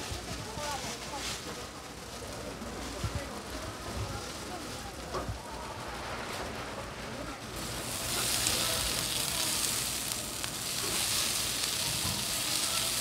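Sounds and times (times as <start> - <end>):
seafood sizzling on griddle: 0.0 - 13.0.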